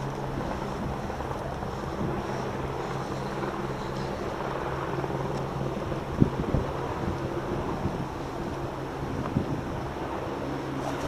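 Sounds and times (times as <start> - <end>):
distant machine engine drone: 0.0 - 11.0.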